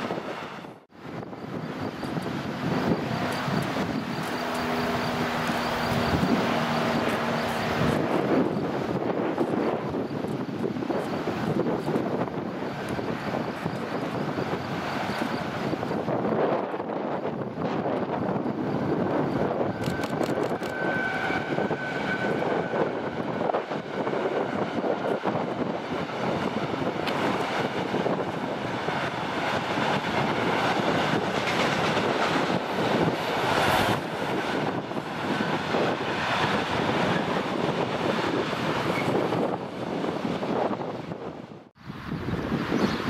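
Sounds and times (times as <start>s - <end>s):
freight train wagons rolling on rails: 0.0s - 41.6s.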